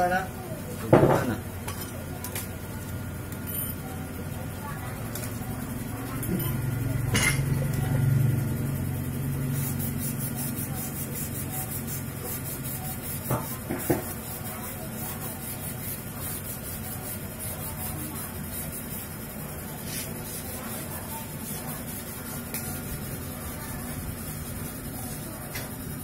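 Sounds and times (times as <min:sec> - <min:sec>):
workshop background noise: 0:00.0 - 0:26.0.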